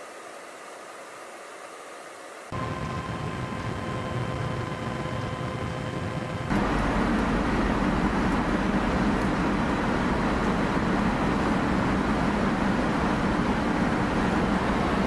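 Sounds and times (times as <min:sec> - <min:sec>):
faint steady hum: 0:00.0 - 0:15.0
jet engine and airflow drone: 0:00.0 - 0:15.0.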